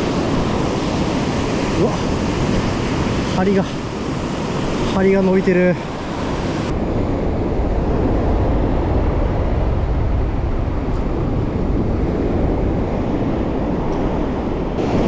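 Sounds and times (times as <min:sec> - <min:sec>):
surf washing on beach: 0:00.0 - 0:15.0
wind buffeting microphone: 0:00.0 - 0:15.0.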